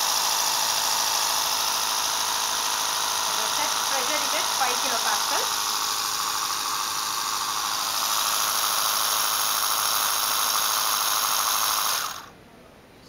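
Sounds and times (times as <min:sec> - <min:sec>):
air compressor buzzing: 0:00.0 - 0:12.4.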